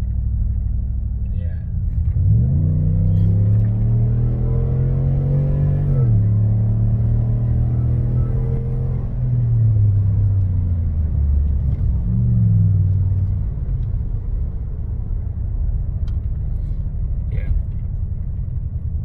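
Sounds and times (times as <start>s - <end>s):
car engine droning while driving: 0.0s - 19.0s.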